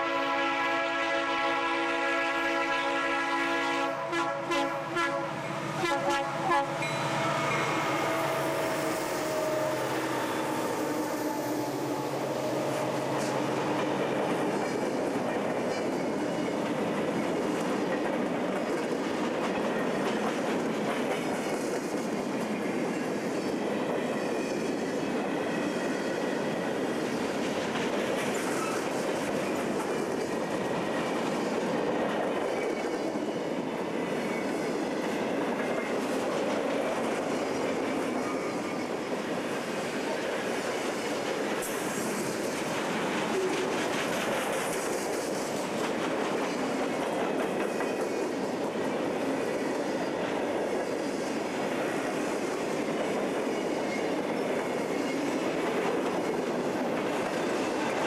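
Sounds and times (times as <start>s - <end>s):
freight cars rolling on rails: 5.3s - 58.0s.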